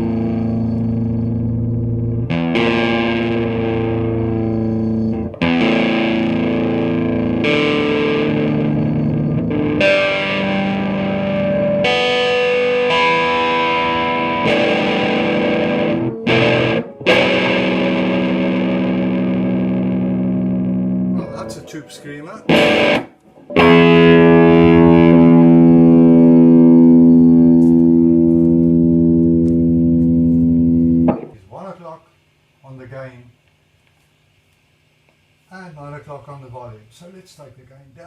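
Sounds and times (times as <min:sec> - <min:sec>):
distorted electric guitar chords: 0:00.0 - 0:31.5.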